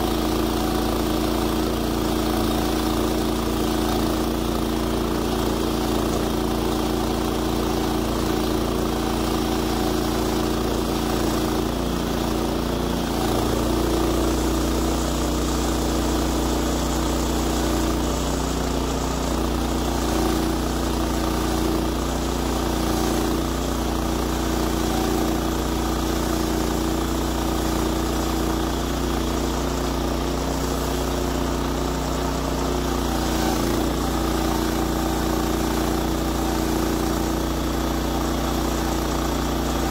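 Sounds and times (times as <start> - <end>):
band saw blade cutting log: 0.0 - 39.9
gas engine running: 0.0 - 39.9.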